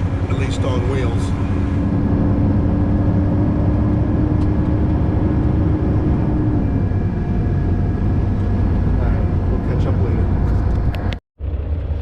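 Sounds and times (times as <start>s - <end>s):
low truck engine drone: 0.0s - 12.0s
road noise: 0.0s - 12.0s.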